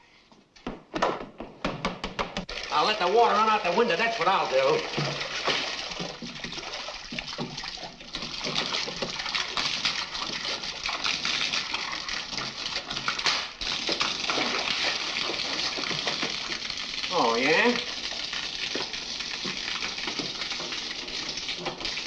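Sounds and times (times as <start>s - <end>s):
water splashing into bathtub: 2.2s - 22.0s
water spraying from leaking pipe: 2.5s - 22.0s.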